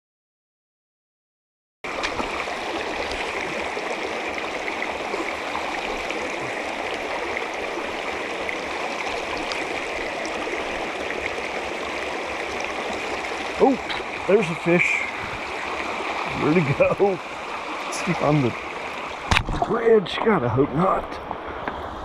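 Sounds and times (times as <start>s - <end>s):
stream water rushing: 1.9s - 22.0s.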